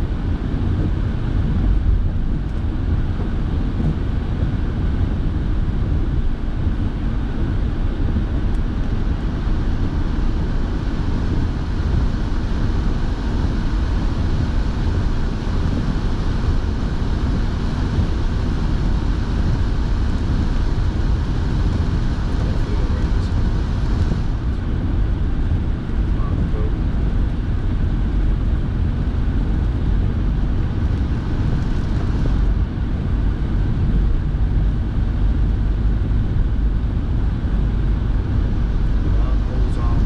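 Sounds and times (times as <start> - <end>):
car engine and tyre rumble: 0.0 - 40.0
heater fan blowing: 0.0 - 40.0.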